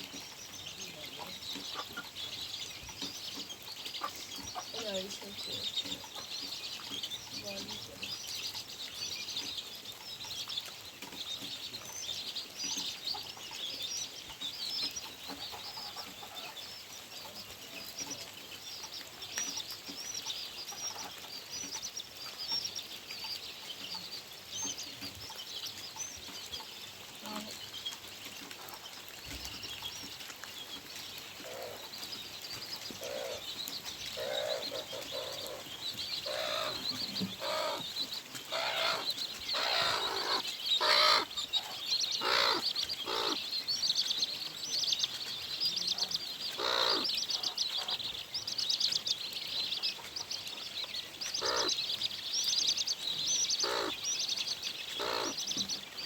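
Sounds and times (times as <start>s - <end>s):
chickens clucking: 0.0s - 56.0s
small birds chirping: 0.0s - 56.0s.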